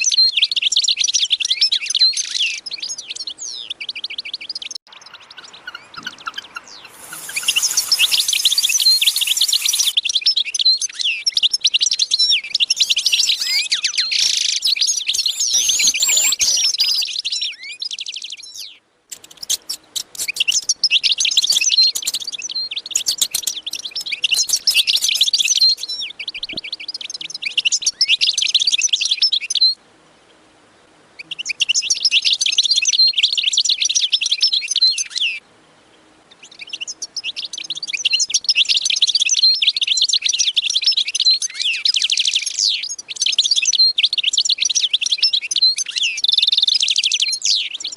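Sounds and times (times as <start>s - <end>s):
small birds chirping chorus: 0.0s - 30.5s, 31.2s - 47.9s.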